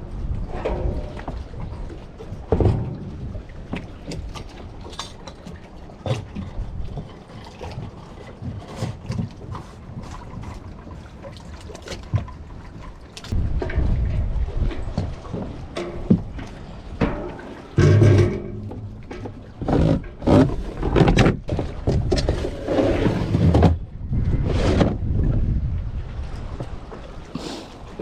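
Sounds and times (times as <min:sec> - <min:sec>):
wind rumble on microphone: 0:00.0 - 0:11.2, 0:13.2 - 0:27.3
water sloshing against boat: 0:00.0 - 0:28.0.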